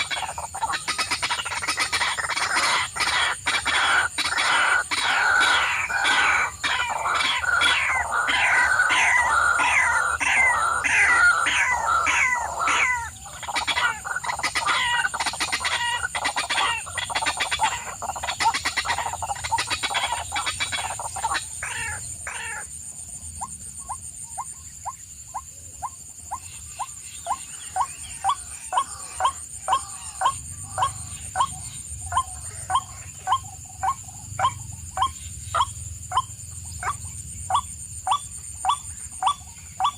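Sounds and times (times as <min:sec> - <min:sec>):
birds squawking and clucking: 0:00.0 - 0:39.9.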